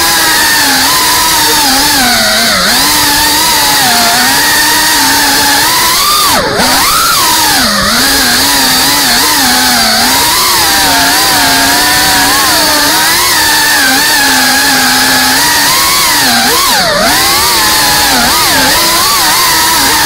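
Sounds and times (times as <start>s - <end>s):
drone motors and propellers buzzing: 0.0s - 20.0s.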